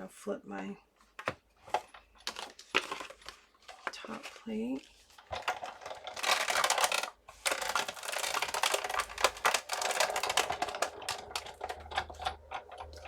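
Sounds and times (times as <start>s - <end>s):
plastic plates clicking and rattling: 1.2s - 4.4s, 5.1s - 13.0s.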